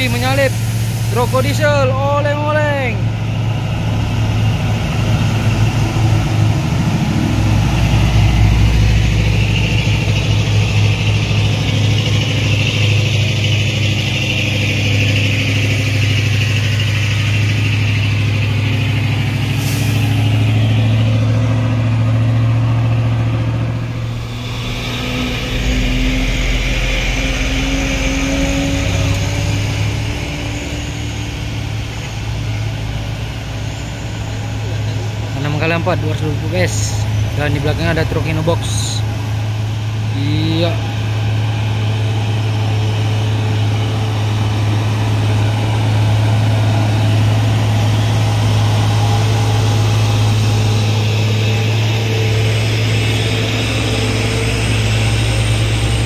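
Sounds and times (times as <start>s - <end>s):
diesel truck engines labouring: 0.0s - 56.0s.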